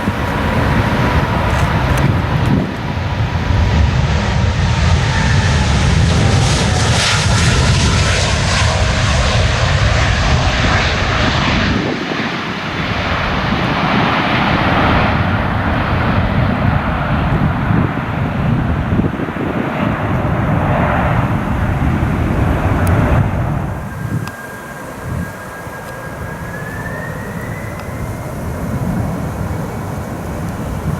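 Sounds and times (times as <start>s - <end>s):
jet airliner taking off: 0.0s - 30.9s.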